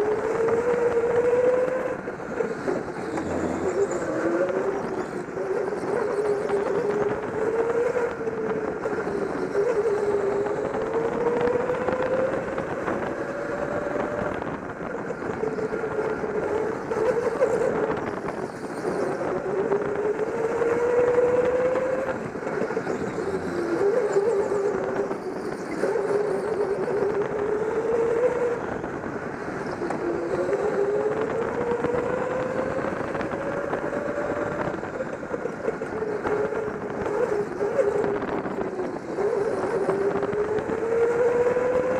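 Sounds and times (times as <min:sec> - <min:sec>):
go-kart motor revving: 0:00.0 - 0:41.9
road noise: 0:00.0 - 0:41.9.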